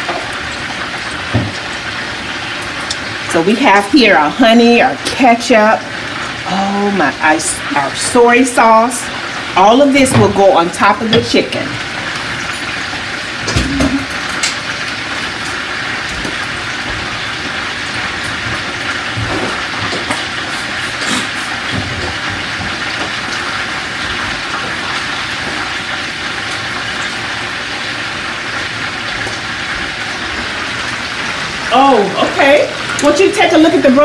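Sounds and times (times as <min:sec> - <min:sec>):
food sizzling on stovetop: 0:00.0 - 0:34.0.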